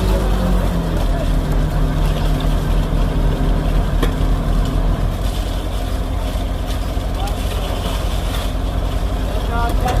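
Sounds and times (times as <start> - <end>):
diesel machinery engine running: 0.0 - 10.0.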